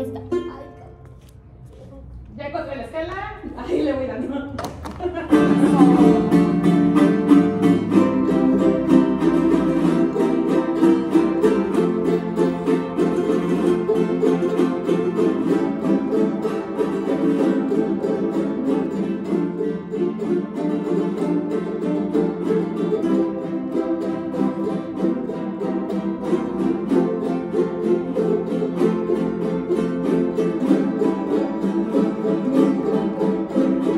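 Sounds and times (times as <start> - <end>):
guitars strummed in fast rhythm: 5.1 - 33.9.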